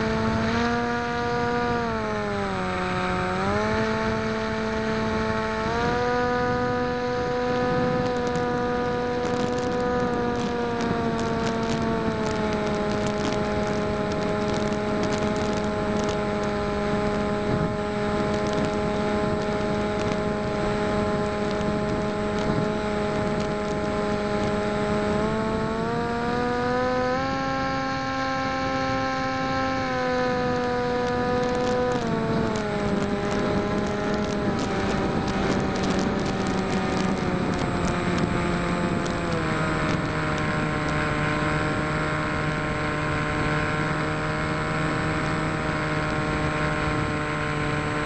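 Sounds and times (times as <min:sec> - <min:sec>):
electric motor and propeller whining: 0:00.0 - 0:48.0
wind noise: 0:00.0 - 0:48.0.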